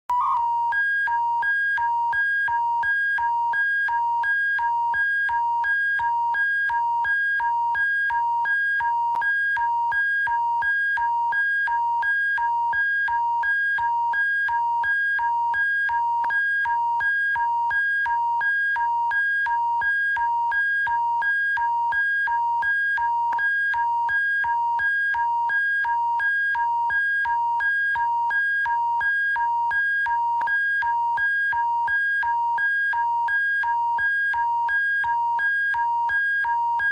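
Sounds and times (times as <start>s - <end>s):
two-tone electronic alarm: 0.1s - 36.9s.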